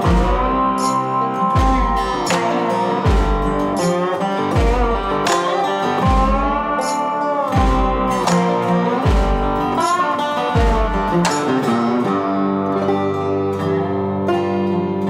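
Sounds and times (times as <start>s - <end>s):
heavy low beat: 0.0s - 12.1s
guitar background music: 0.0s - 15.0s.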